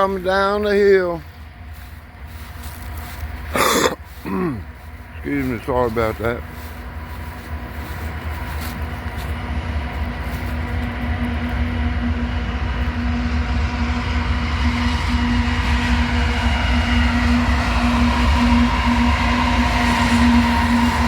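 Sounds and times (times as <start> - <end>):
diesel locomotive rumbling: 0.0 - 21.0.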